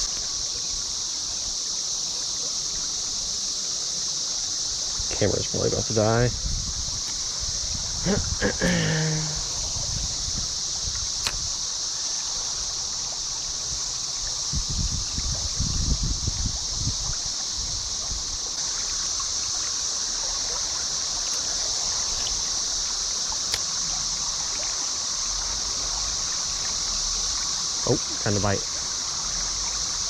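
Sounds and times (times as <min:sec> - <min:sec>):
cicada chorus drone: 0:00.0 - 0:30.0
creek water running: 0:00.0 - 0:30.0.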